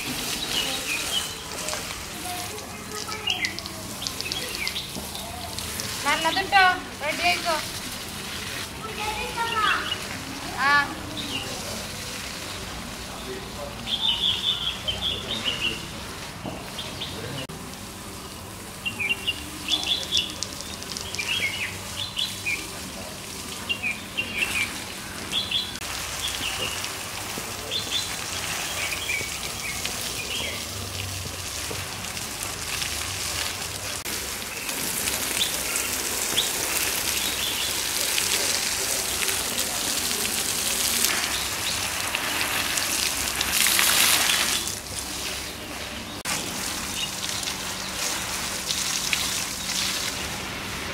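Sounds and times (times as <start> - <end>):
birds chirping: 0.0 - 7.7, 8.8 - 17.5, 18.2 - 32.4, 33.2 - 50.7
water pattering on leaves: 0.0 - 50.9.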